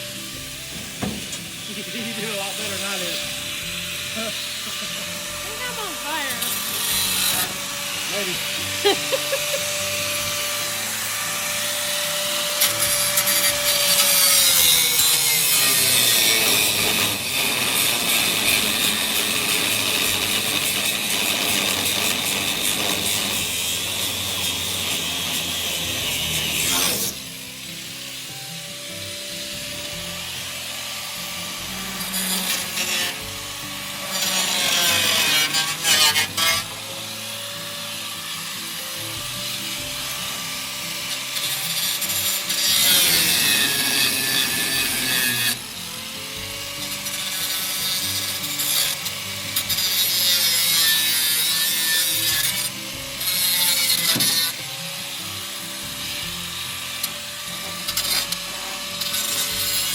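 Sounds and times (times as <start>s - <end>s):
angle grinder cutting sheet steel: 0.0s - 59.9s.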